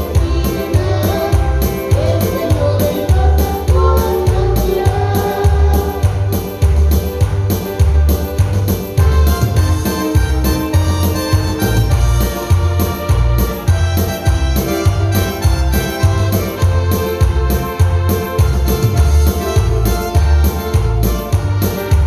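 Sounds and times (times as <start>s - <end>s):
electric keyboard playing chords: 0.0s - 22.0s
repeating bass beat: 0.0s - 22.0s.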